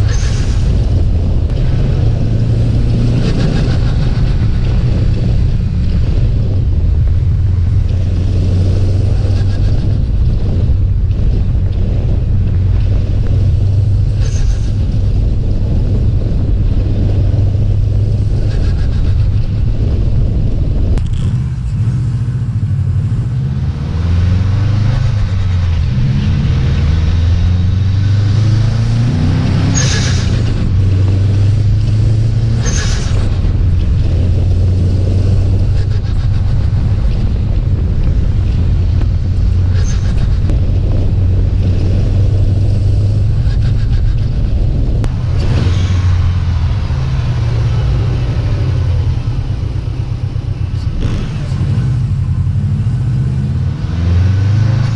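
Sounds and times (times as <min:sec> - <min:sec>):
car engine and exhaust revving: 0:00.0 - 0:54.9.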